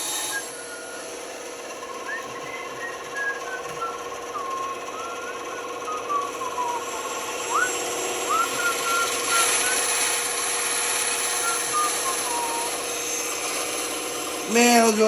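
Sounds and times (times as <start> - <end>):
band saw cutting wood: 0.0 - 15.0.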